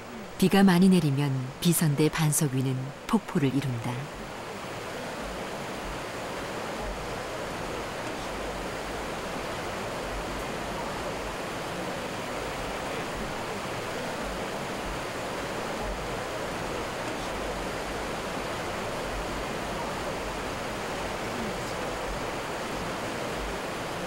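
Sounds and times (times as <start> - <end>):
stream water rushing over rocks: 2.9 - 24.0.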